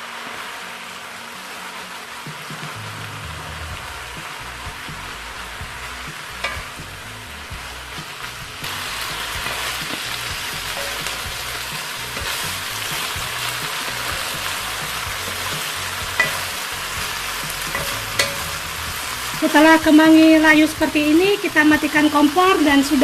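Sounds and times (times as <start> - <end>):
stir-fry sizzling in a pan: 0.0 - 23.0.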